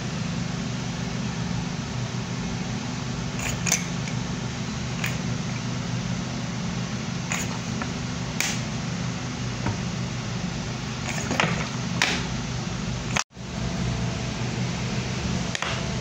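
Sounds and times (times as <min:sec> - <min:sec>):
low mechanical hum with hiss: 0:00.0 - 0:16.0.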